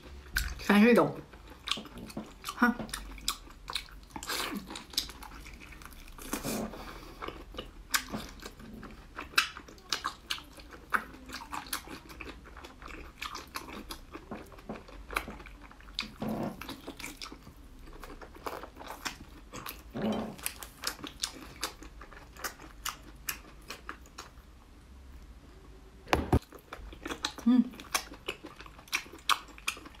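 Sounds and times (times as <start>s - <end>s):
person chewing wet food: 0.0s - 24.5s, 26.4s - 30.0s.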